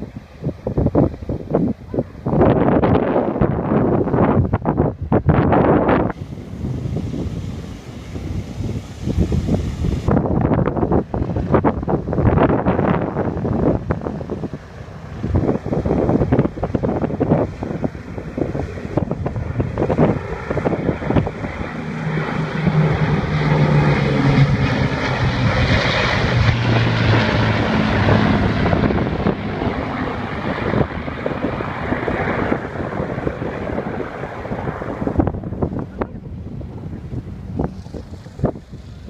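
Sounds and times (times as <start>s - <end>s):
aircraft piston engines droning: 0.0s - 39.0s
wind buffeting microphone: 0.0s - 39.0s.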